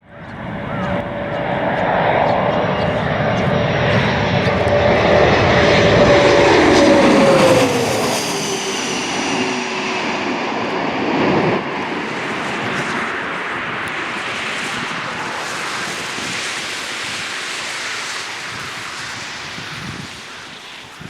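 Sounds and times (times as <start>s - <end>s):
airliner engine rush: 0.0s - 21.0s.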